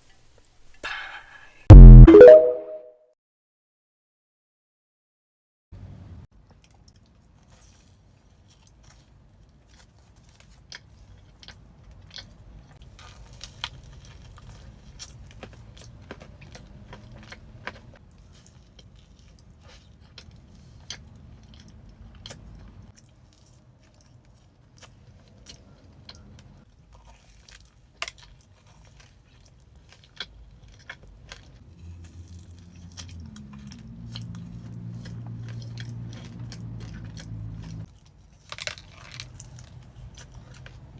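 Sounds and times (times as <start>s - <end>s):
person chewing crunchy food: 6.6s - 40.9s.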